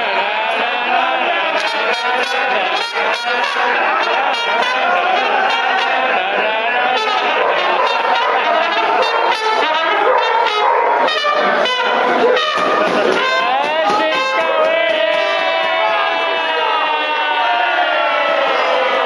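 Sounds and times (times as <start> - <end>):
trumpet playing: 0.0 - 18.2
crowd of voices: 0.0 - 19.0.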